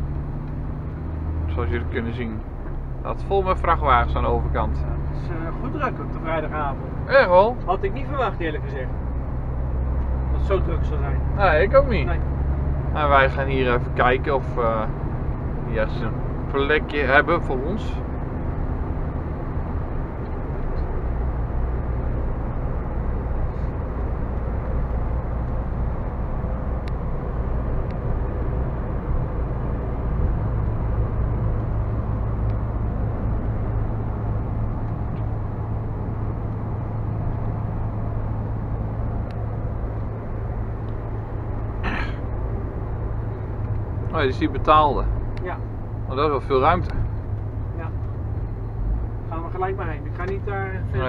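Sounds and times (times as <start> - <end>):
lorry engine running: 0.0 - 51.0.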